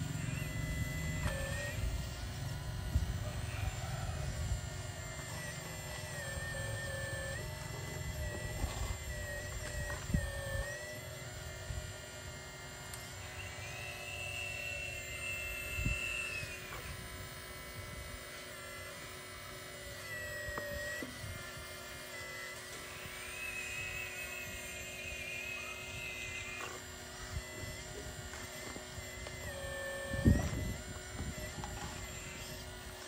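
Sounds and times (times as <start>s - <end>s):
excavator hydraulic pump whine: 0.0s - 33.0s.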